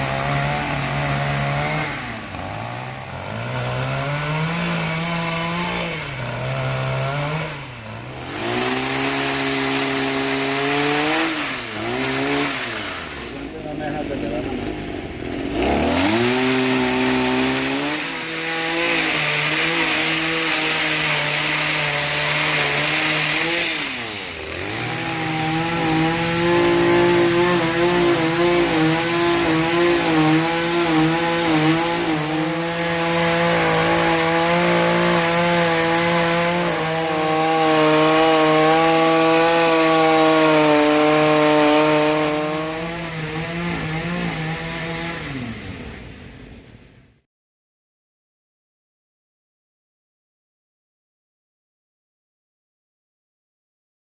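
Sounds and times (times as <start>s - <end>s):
chainsaw cutting wood: 0.0s - 46.3s.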